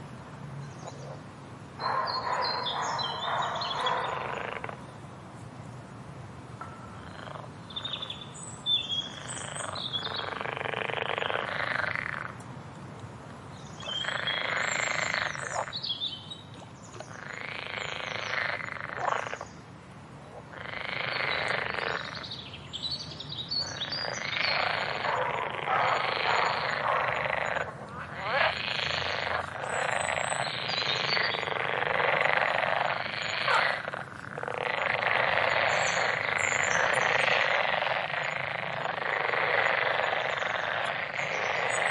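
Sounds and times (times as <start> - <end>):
frogs trilling: 1.8 - 4.8, 7.0 - 12.4, 13.7 - 16.0, 17.0 - 19.6, 20.3 - 22.5, 23.4 - 41.9.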